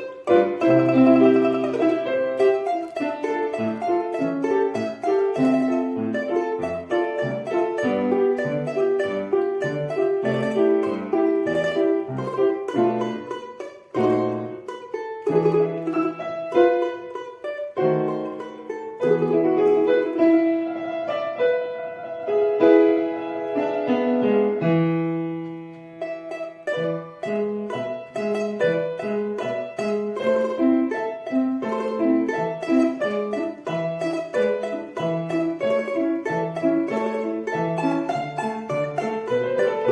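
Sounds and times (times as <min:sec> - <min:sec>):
piano: 0:00.0 - 0:39.9
plucked string instrument: 0:00.0 - 0:39.9.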